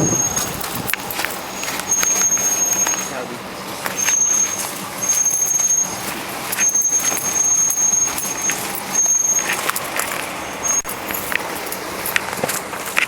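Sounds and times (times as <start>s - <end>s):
high-pitched squeal: 0.0s - 11.4s
vehicle rattling and knocking: 0.0s - 13.0s.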